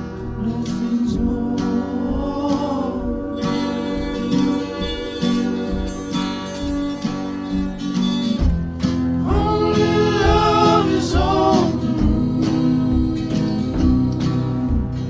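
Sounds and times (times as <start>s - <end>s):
person singing: 0.0s - 7.5s, 9.0s - 15.0s
acoustic guitar song: 0.0s - 15.0s
steady low beat: 0.0s - 15.0s.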